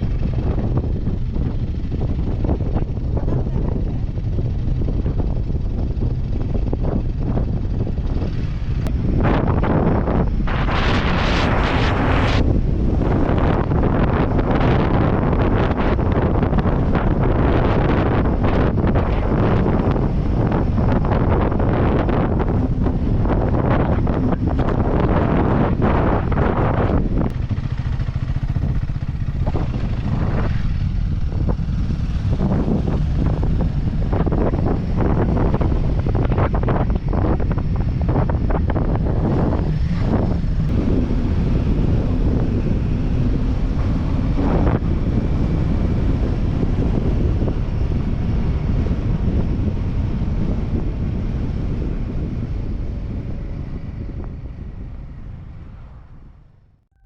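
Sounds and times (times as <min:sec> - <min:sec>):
motorcycle engine running: 0:00.0 - 0:56.8
wind rumbling on microphone: 0:00.0 - 0:57.0.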